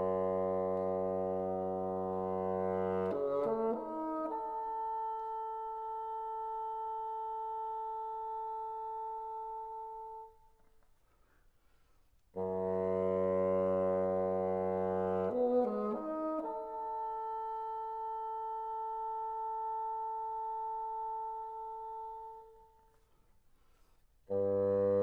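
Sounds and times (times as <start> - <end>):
bassoon playing: 0.0 - 10.5, 12.3 - 22.9, 24.2 - 25.0.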